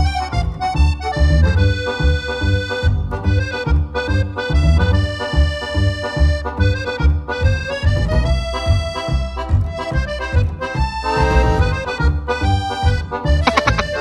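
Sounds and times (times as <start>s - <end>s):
accordion melody over bouncy beat: 0.0s - 14.0s.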